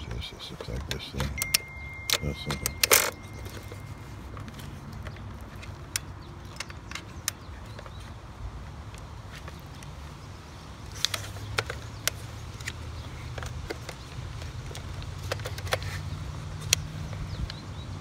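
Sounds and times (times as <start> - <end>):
hard plastic clicks: 0.1 - 9.9, 10.9 - 17.6.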